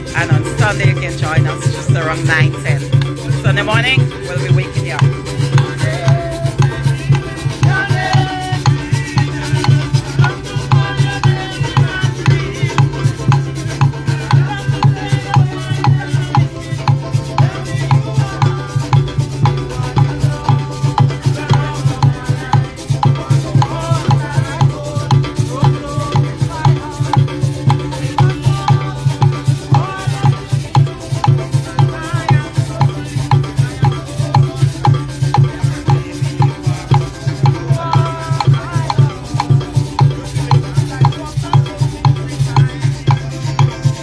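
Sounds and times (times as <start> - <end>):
drums: 0.0 - 44.0
shakers: 0.0 - 44.0.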